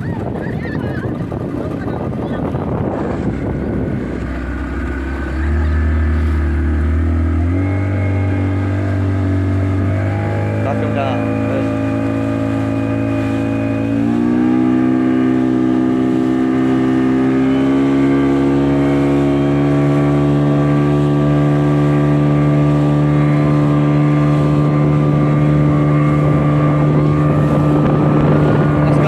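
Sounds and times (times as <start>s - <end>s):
motorboat engine running: 0.0s - 29.0s.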